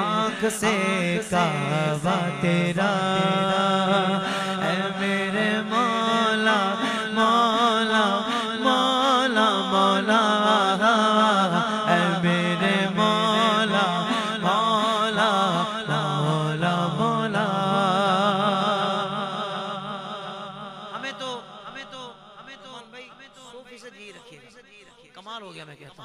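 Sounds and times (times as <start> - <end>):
man singing with echo: 0.0 - 26.0.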